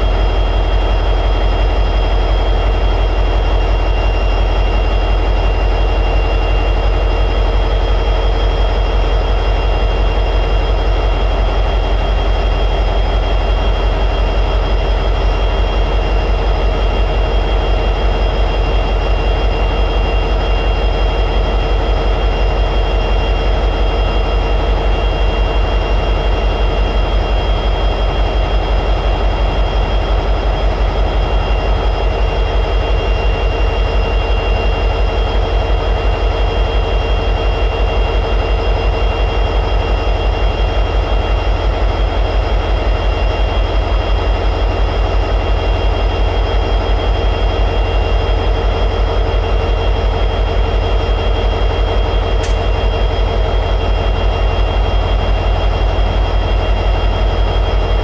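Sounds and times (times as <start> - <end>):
diesel locomotive engine idling: 0.0 - 58.0
steady high whine: 0.0 - 58.0.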